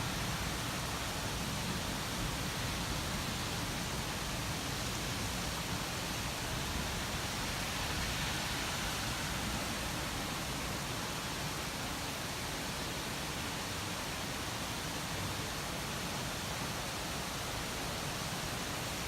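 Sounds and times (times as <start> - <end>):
rushing hiss of rain: 0.0 - 19.0.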